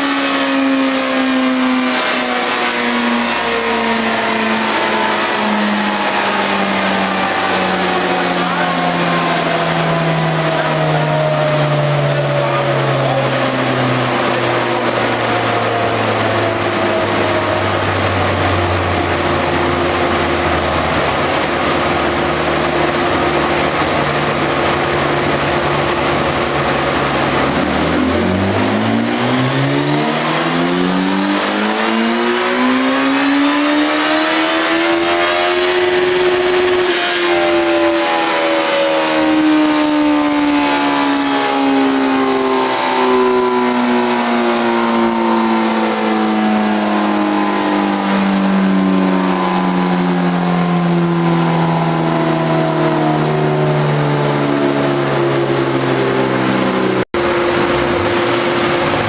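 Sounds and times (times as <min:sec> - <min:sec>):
vehicle engine accelerating: 0:00.0 - 0:59.0.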